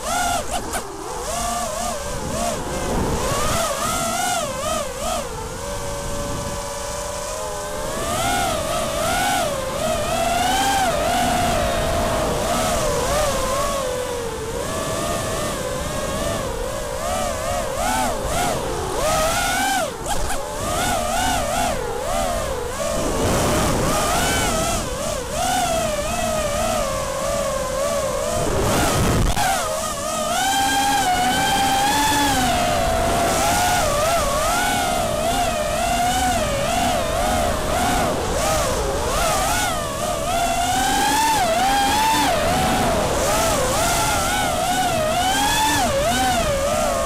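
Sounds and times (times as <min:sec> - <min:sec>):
quadcopter motors whining: 0:00.0 - 0:47.0.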